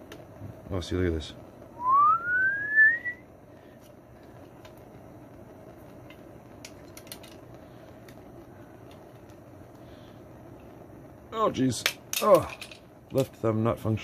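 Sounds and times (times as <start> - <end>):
torch flame rushing: 0.0 - 14.0.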